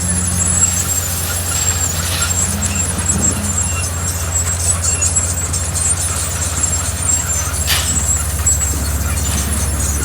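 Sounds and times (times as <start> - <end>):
heavy diesel machinery droning: 0.0 - 10.0
rattling: 0.0 - 10.0.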